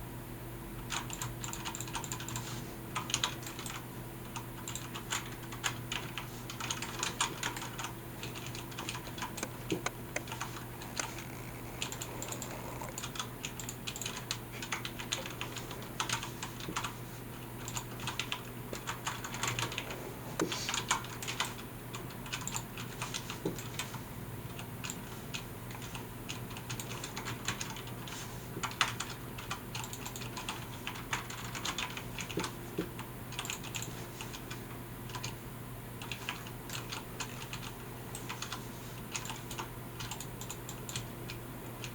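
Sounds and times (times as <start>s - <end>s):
mechanical keyboard typing: 0.9s - 2.4s, 3.0s - 16.9s, 17.6s - 35.4s, 36.0s - 41.9s.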